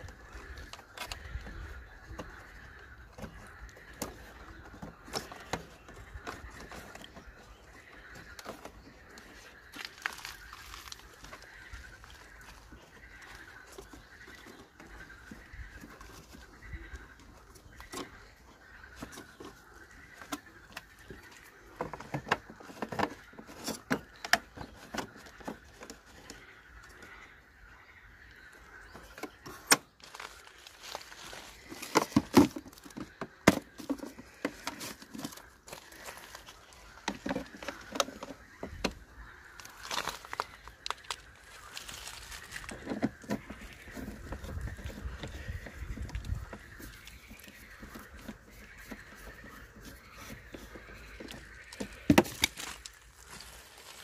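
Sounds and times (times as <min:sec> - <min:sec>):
faint animal calls: 0:00.0 - 0:54.0.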